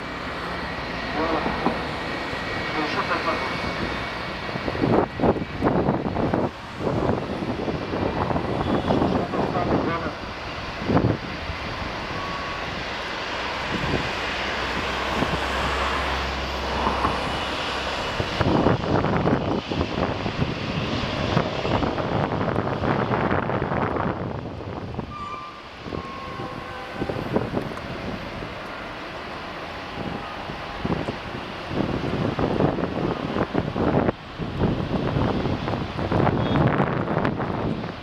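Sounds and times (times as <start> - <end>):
jet engines whining: 0.0 - 38.0
wind rumbling on microphone: 0.0 - 38.0.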